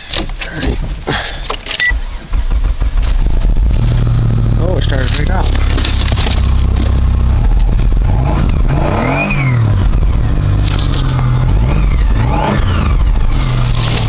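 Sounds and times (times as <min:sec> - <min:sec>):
car engine revving: 0:01.9 - 0:14.0.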